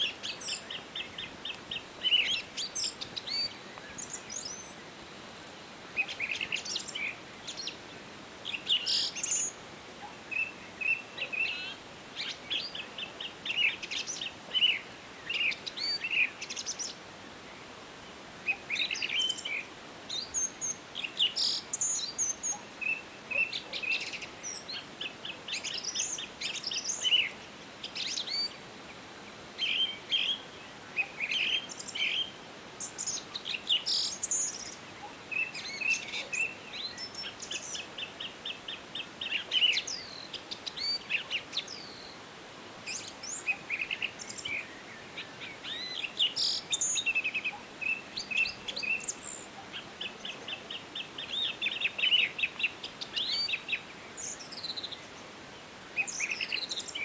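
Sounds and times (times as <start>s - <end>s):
soft steady hiss: 0.0s - 57.0s
songbirds chirping and trilling: 0.0s - 57.0s.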